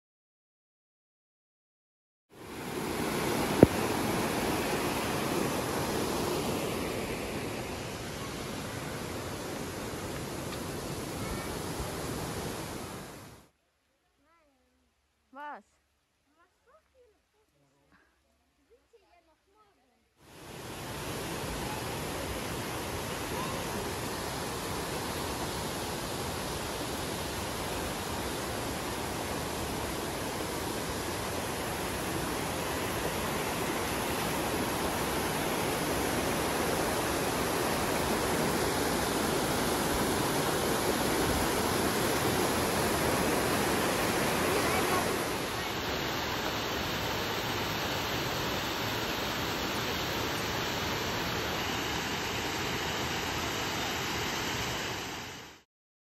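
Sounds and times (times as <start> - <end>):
waterfall roaring over rocks: 2.4 - 13.4, 20.3 - 55.6.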